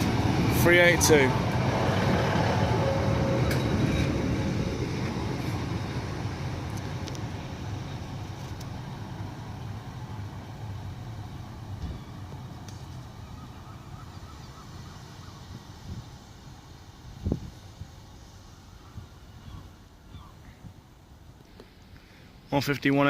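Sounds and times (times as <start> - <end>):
diesel train engines rumbling: 0.0 - 23.0.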